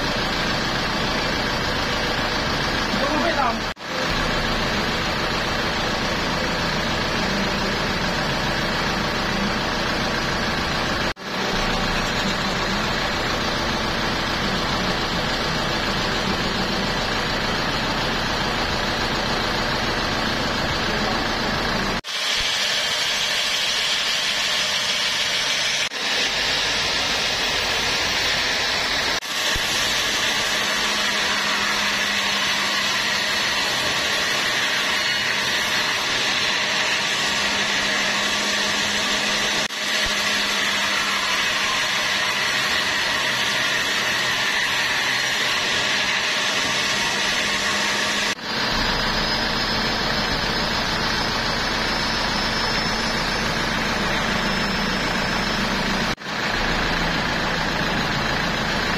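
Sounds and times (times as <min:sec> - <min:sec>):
band saw cutting a log: 0:00.0 - 0:58.9
sawmill machinery humming: 0:00.0 - 0:58.9.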